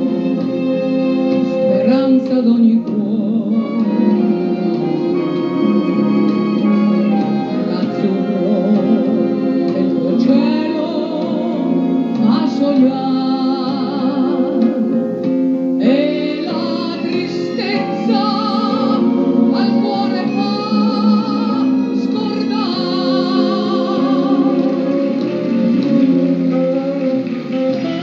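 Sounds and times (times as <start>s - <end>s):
woman singing with vibrato: 0.0s - 27.1s
live band accompaniment: 0.0s - 28.0s.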